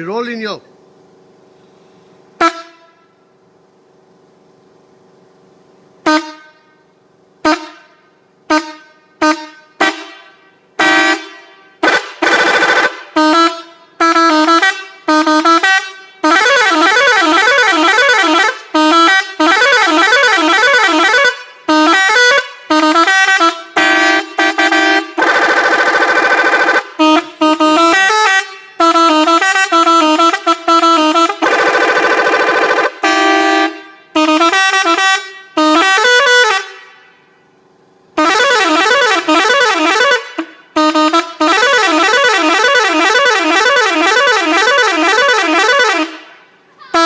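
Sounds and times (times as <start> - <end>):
multi-tone bus horn: 2.4 - 3.2, 6.0 - 6.8, 7.4 - 37.4, 38.2 - 47.0.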